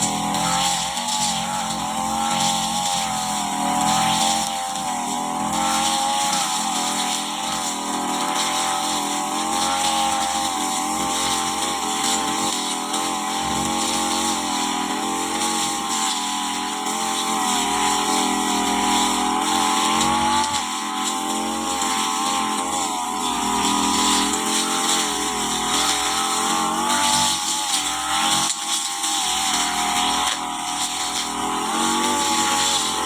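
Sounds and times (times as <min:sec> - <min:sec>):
brush cutter engine running: 0:00.0 - 0:33.0.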